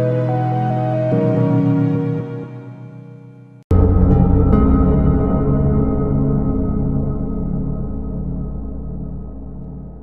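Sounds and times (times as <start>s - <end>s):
slowed dreamy music chord: 0.0s - 10.0s.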